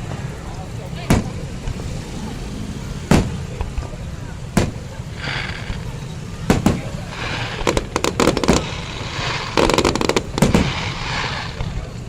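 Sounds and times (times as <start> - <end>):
fireworks crackling pops: 0.0 - 2.0, 3.1 - 12.0
firework bangs: 0.0 - 12.0.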